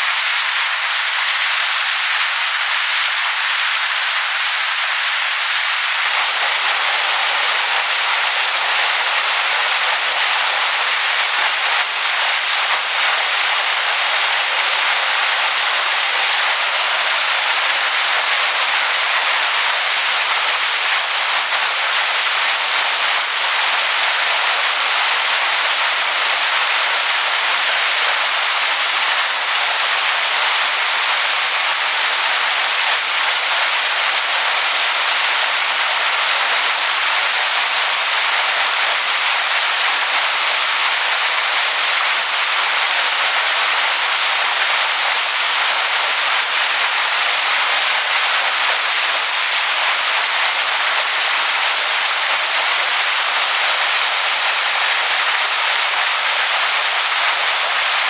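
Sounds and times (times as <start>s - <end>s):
waterfall pouring onto rocks: 0.0s - 58.0s.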